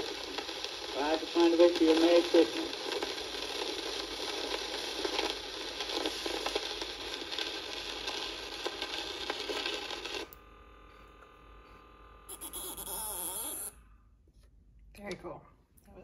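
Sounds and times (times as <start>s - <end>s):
record surface hiss and crackle: 0.0s - 13.8s.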